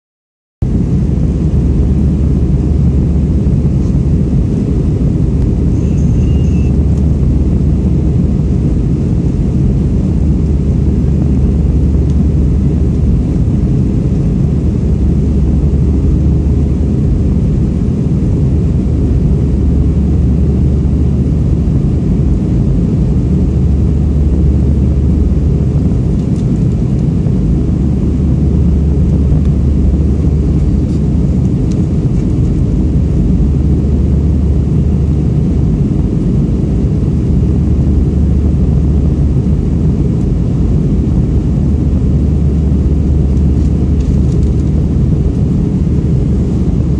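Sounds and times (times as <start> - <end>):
jet engines droning: 0.6 - 46.9.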